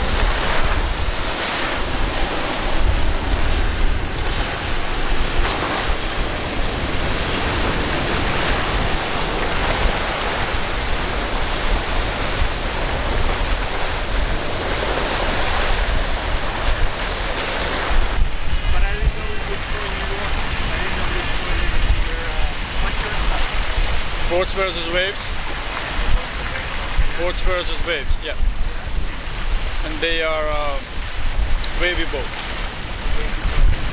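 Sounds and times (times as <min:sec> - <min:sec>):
surf and spraying water: 0:00.0 - 0:33.9
wind buffeting microphone: 0:00.0 - 0:33.9.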